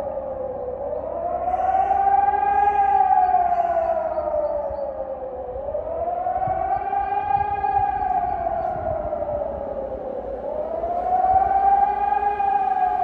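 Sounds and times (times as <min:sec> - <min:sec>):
warning siren howling: 0:00.0 - 0:13.0.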